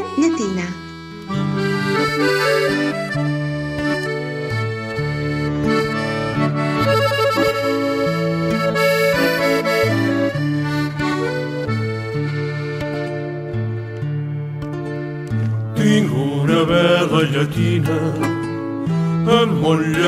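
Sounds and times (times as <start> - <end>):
instrumental song introduction: 0.0 - 20.0.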